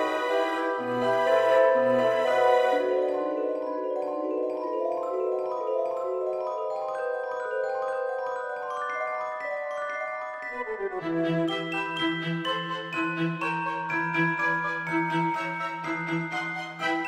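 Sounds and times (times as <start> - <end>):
gentle mallet percussion melody: 0.0 - 17.0.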